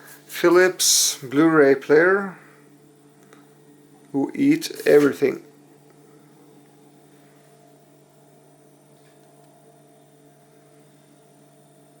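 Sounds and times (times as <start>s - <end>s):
faint electrical hum: 0.0s - 12.0s
thin high whine: 0.0s - 12.0s.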